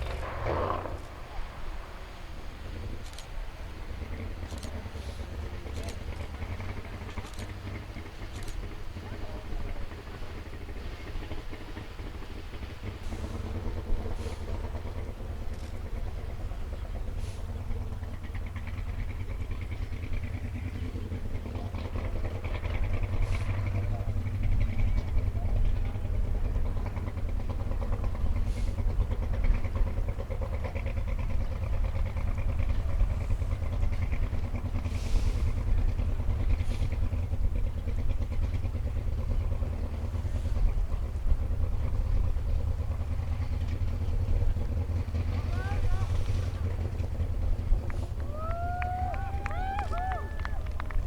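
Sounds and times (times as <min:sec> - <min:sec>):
engine running and revving: 0:00.0 - 0:51.0.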